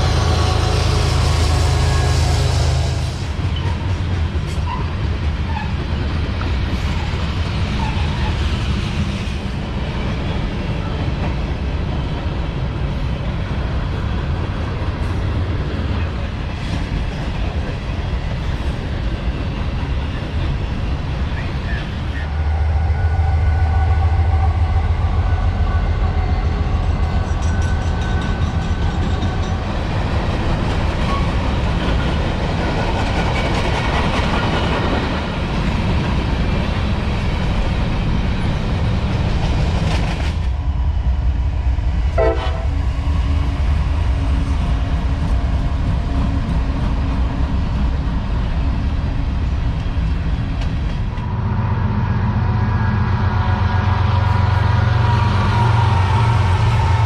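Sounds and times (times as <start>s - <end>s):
freight train rumbling by: 0.0s - 57.0s.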